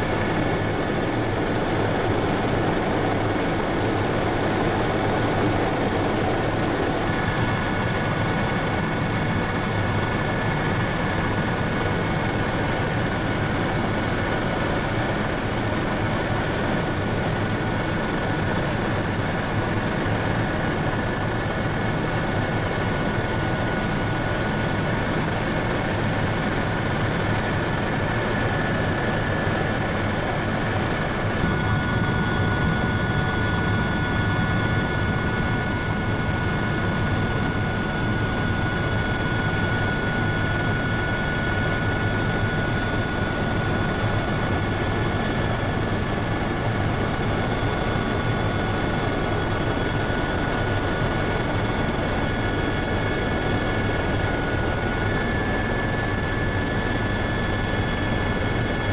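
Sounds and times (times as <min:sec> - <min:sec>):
helicopter cabin drone: 0:00.0 - 0:58.9.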